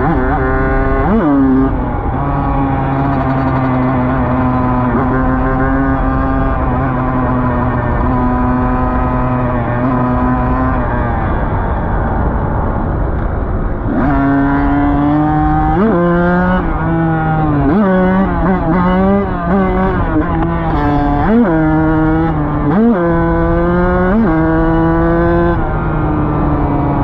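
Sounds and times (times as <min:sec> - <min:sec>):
dirt bike engine with throttle blips: 0:00.0 - 0:27.0.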